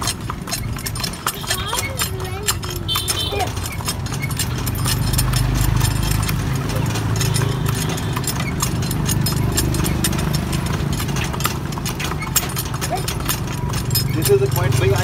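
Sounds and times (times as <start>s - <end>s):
horse hooves clip-clopping on pavement: 0.0s - 15.0s.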